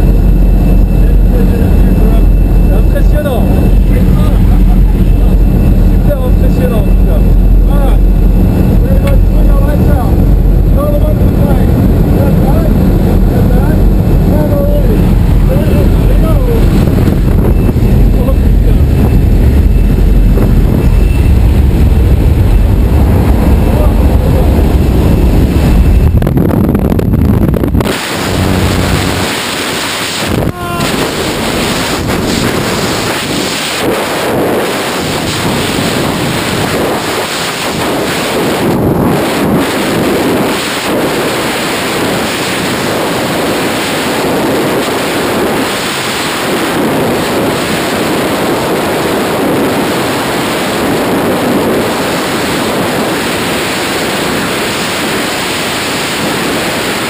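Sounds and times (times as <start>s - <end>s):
freefall wind buffeting microphone: 0.0s - 57.0s
plane engine and propeller drone: 0.0s - 57.0s.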